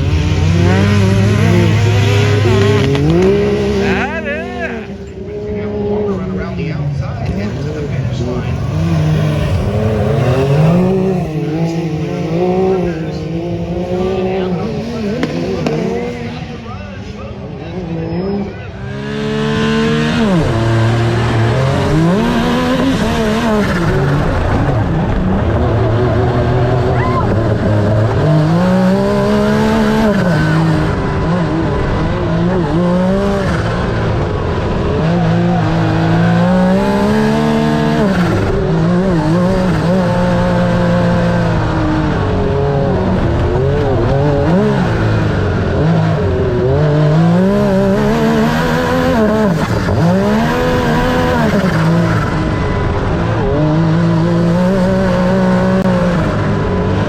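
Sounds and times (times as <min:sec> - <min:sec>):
engine revving hard: 0:00.0 - 0:16.8, 0:17.6 - 0:57.0.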